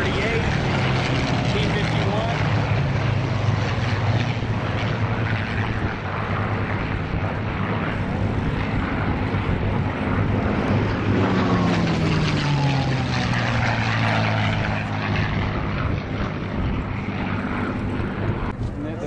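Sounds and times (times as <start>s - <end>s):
propeller planes flying past: 0.0s - 19.0s.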